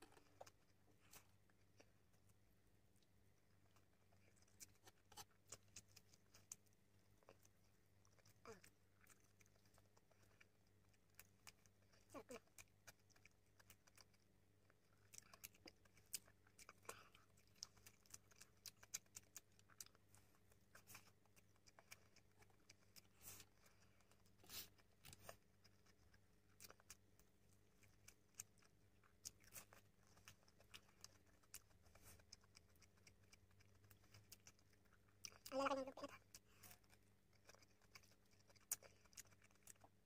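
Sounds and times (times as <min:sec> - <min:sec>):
soft chewing clicks: 0:00.0 - 0:40.0.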